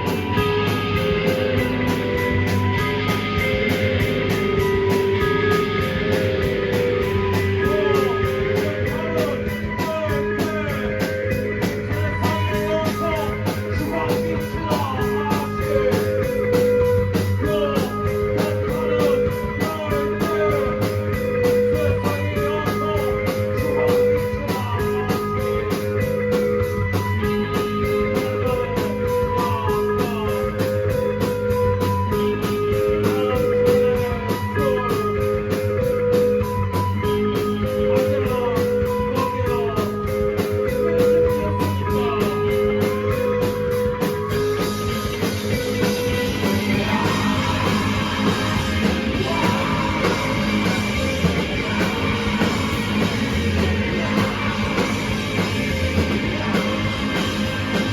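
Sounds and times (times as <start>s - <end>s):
fast steady drum beat: 0.0s - 57.9s
rock band playing loud: 0.0s - 57.9s.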